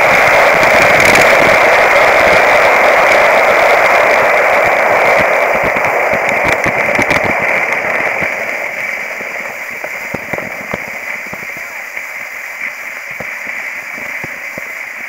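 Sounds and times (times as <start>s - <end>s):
clicks and crackles: 0.0s - 15.0s
skis scraping over packed snow: 0.0s - 15.0s.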